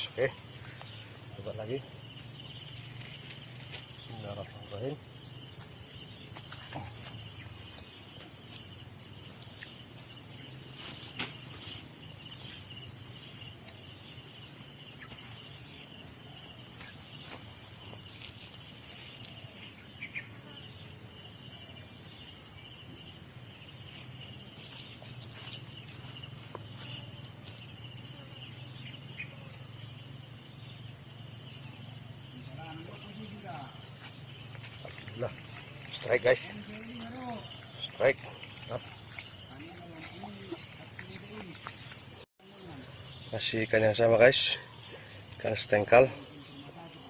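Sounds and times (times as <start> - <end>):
high-pitched insect chorus: 0.0 - 47.0.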